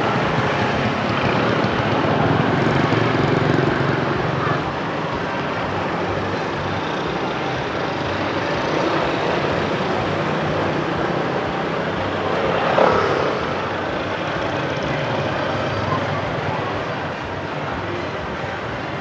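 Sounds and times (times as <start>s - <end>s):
motorbikes and cars passing: 0.0s - 19.0s.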